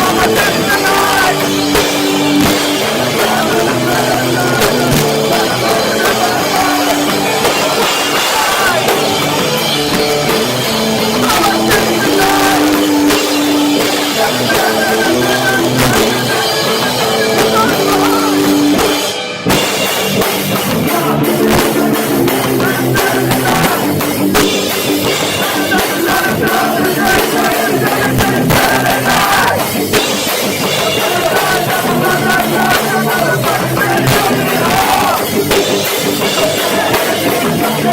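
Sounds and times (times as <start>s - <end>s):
shouted singing: 0.0s - 19.0s, 20.7s - 24.2s, 25.0s - 37.9s
live heavy rock band: 0.0s - 37.9s.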